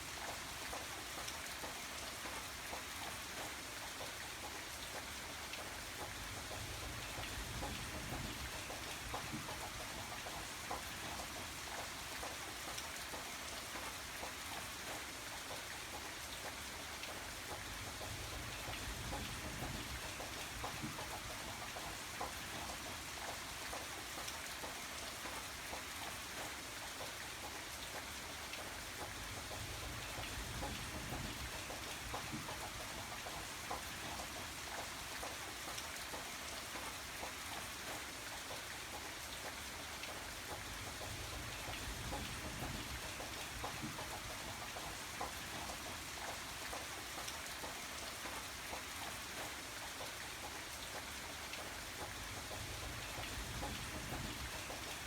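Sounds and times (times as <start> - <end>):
rain drops pattering: 0.0 - 55.0.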